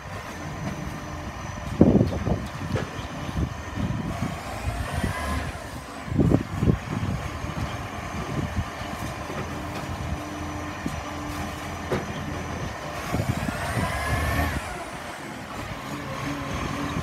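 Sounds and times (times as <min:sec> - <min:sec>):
garbage truck diesel engine running: 0:00.0 - 0:17.0.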